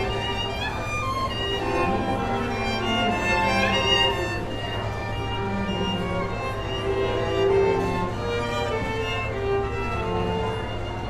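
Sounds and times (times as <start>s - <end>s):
classical string music with violin: 0.0s - 11.0s.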